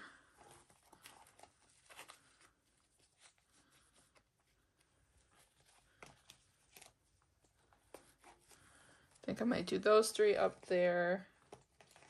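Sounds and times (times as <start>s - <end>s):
faint rustles and taps: 0.4s - 9.4s, 10.4s - 12.0s.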